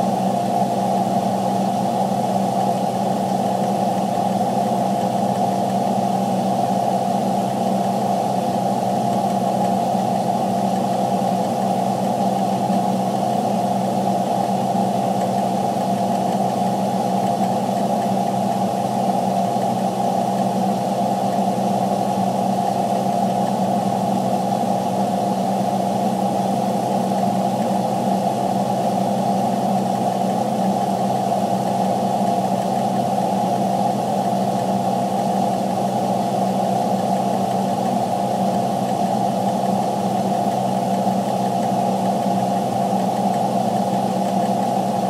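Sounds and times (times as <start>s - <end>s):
truck engine drone from cab: 0.0s - 45.0s.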